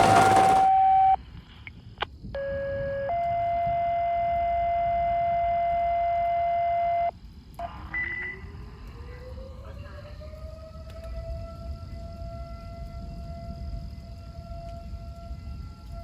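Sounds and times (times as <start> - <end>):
warning sirens: 0.0 - 0.7, 2.8 - 16.0.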